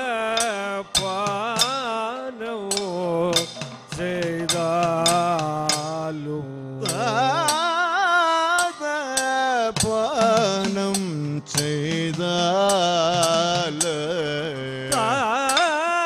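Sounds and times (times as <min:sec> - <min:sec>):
man singing ornamented melody: 0:00.0 - 0:16.0
sharp percussion strokes: 0:00.3 - 0:06.2, 0:06.8 - 0:16.0.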